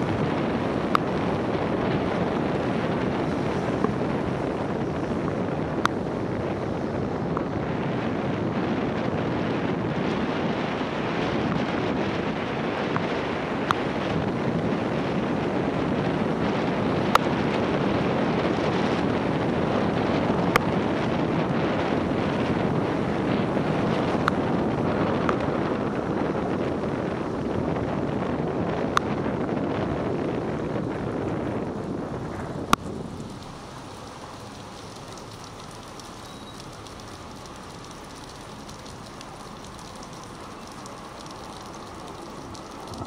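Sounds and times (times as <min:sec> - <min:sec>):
raindrops ticking on camera: 0:00.0 - 0:43.0
tyre noise on wet road: 0:00.0 - 0:43.0
wind rushing over microphone: 0:00.0 - 0:43.0.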